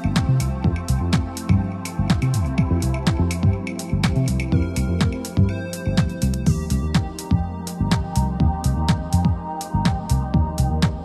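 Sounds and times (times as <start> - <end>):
deep pitch-dropping bass: 0.0 - 11.0
electronic dance music: 0.0 - 11.0
heavy kick drum beat: 0.0 - 11.0.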